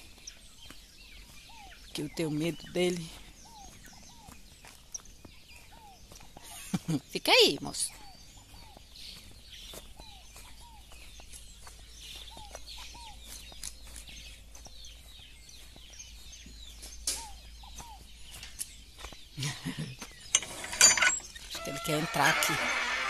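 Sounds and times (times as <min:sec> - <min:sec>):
faint high-pitched bird chirps: 0:00.0 - 0:06.6, 0:07.4 - 0:19.1, 0:21.0 - 0:23.0.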